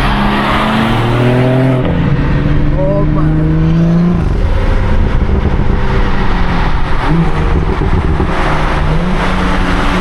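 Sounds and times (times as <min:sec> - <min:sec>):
car exhaust drone: 0:00.0 - 0:10.0.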